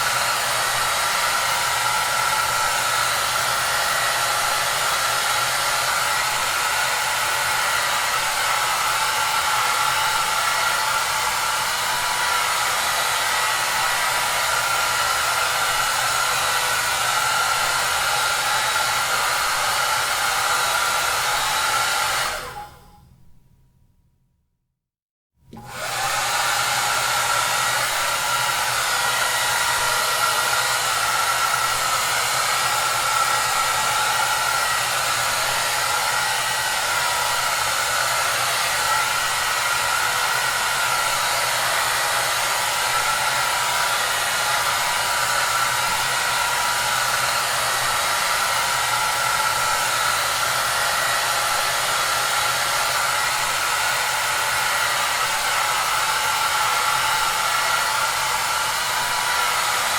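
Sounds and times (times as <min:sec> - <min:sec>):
hair dryer running: 0:00.0 - 0:23.0, 0:25.5 - 0:59.9.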